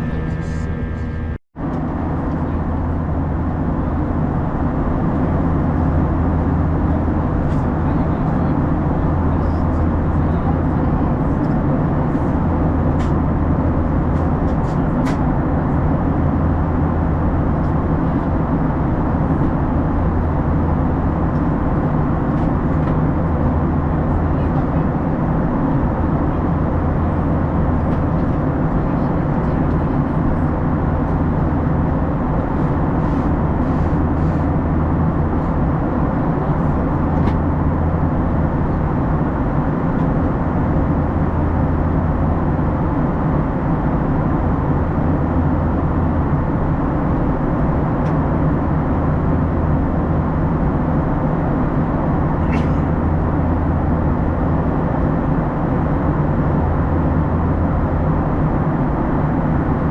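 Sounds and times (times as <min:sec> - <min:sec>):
airflow rushing in cabin: 0:00.0 - 0:59.9
low engine hum: 0:00.0 - 0:59.9.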